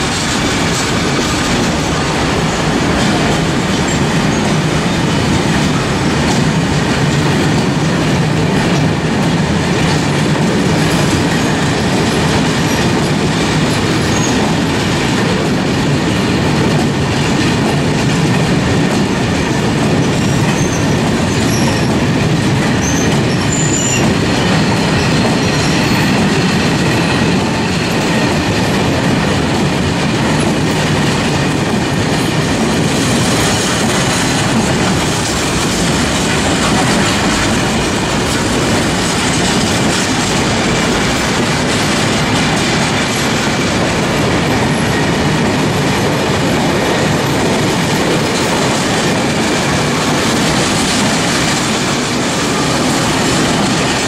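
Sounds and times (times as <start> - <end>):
freight train wheels clattering: 0.0 - 54.0.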